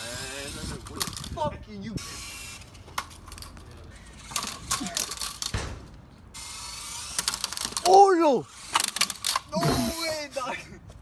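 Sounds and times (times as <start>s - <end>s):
toy helicopter motor whir: 0.0s - 1.3s, 2.0s - 5.4s, 6.4s - 10.5s.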